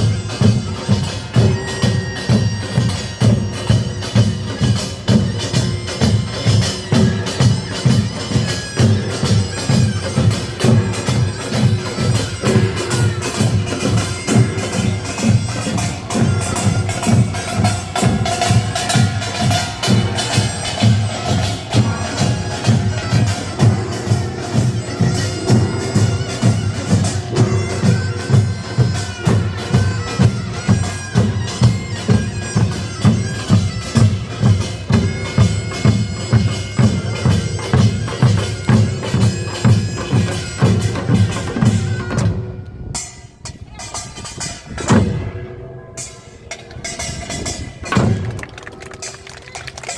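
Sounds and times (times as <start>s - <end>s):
reedy wind instrument: 0.0s - 49.9s
steady drum beats: 0.0s - 49.9s.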